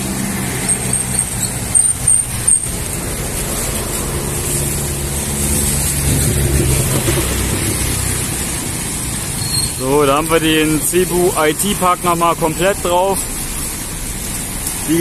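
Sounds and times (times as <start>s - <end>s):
engine hum: 0.0s - 15.0s
traffic on wet street: 0.0s - 15.0s.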